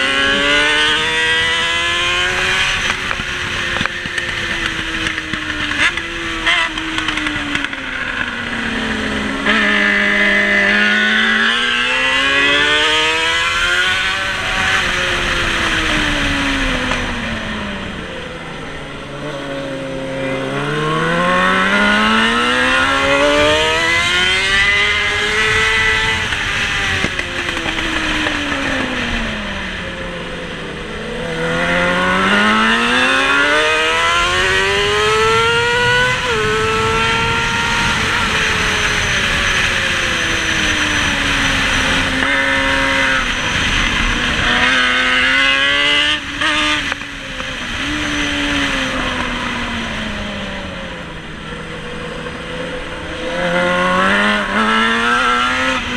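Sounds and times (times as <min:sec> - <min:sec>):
racing motorcycle engine: 0:00.0 - 0:55.9.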